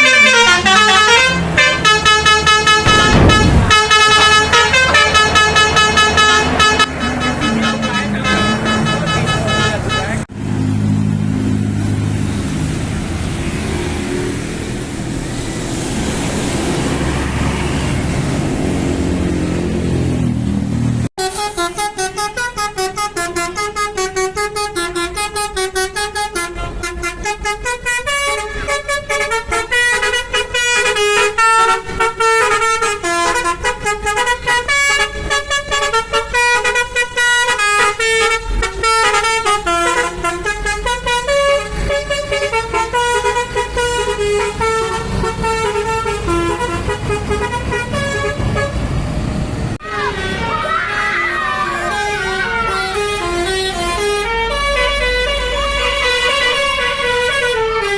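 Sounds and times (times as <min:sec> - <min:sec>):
bus musical horn: 0:00.0 - 0:10.3, 0:21.1 - 0:49.2, 0:49.8 - 0:57.9.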